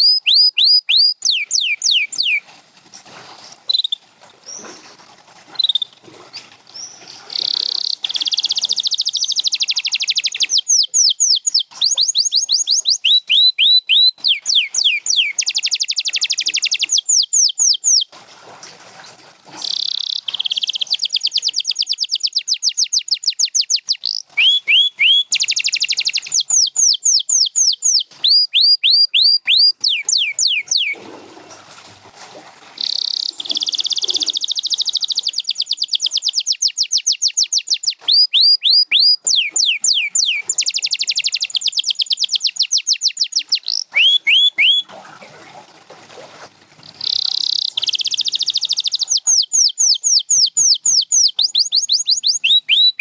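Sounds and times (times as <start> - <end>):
canary singing: 0.0 - 2.4, 5.6 - 18.1, 19.6 - 31.0, 32.8 - 44.9, 47.0 - 53.0.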